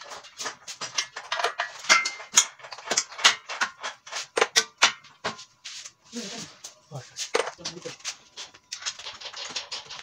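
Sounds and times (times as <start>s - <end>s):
metal clinks and knocks: 0.0s - 5.4s, 7.3s - 10.0s.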